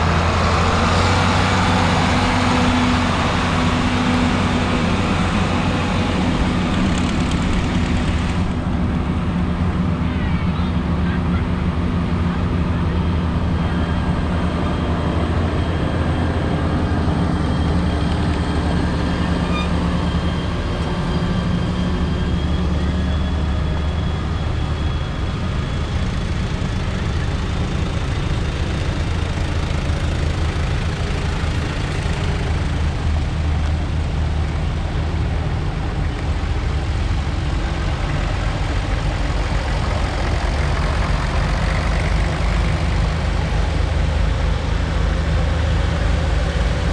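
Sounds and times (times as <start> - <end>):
vehicle engines droning: 0.0 - 46.9.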